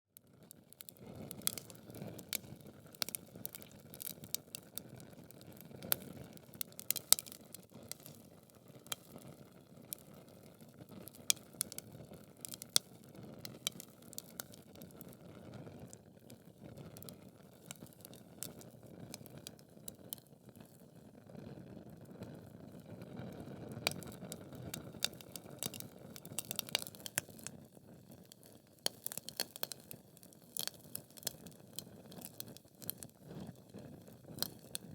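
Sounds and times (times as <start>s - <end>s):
logs crackling and popping: 0.7s - 15.2s, 15.8s - 20.8s, 23.0s - 34.9s.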